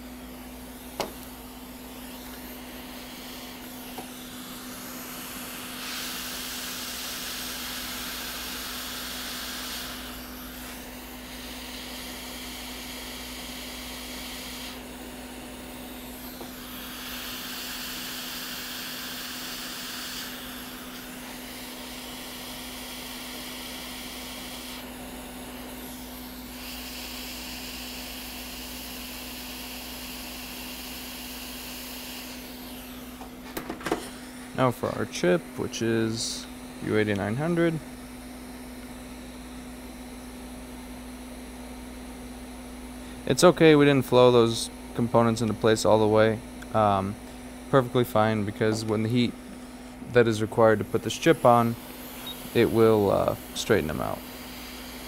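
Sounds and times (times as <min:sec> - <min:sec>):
hot air blower hissing: 0:00.0 - 0:40.1, 0:42.6 - 0:55.0.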